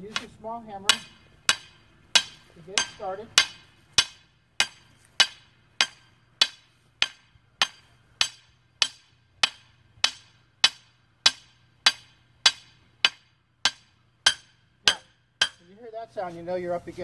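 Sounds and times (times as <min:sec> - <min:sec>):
hammer striking steel bar: 0:00.1 - 0:15.7.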